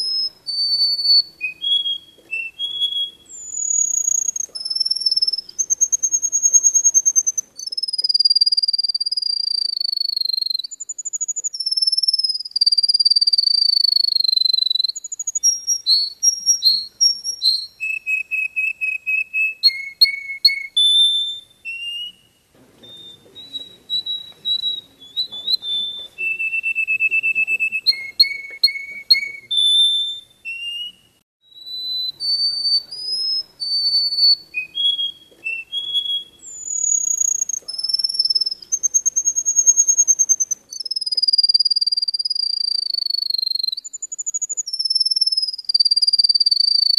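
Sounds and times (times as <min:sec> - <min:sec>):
finch singing: 0:00.0 - 0:46.9.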